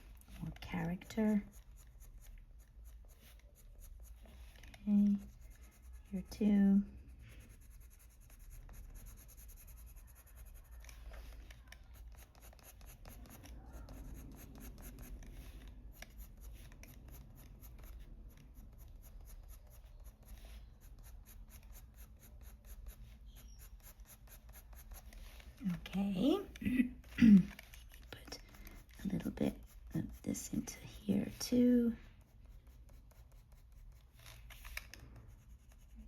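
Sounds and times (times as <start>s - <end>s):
pencil scratching on paper: 0.0s - 36.0s.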